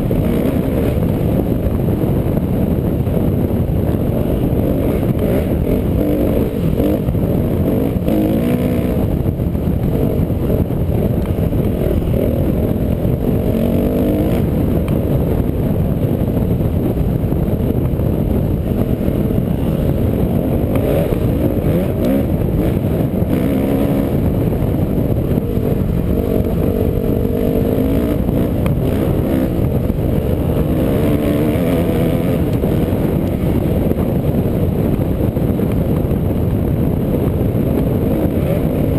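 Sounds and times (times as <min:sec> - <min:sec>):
off-road vehicle engine revving: 0:00.0 - 0:01.7, 0:04.1 - 0:15.4, 0:17.6 - 0:35.8, 0:36.8 - 0:38.9
rumble over rough ground: 0:00.0 - 0:38.9.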